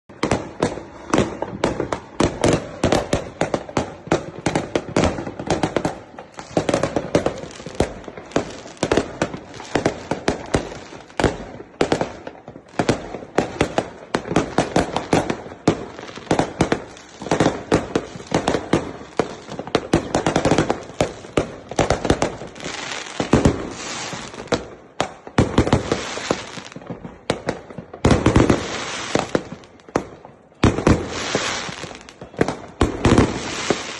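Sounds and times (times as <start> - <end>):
fireworks cracking and banging: 0.1 - 33.9.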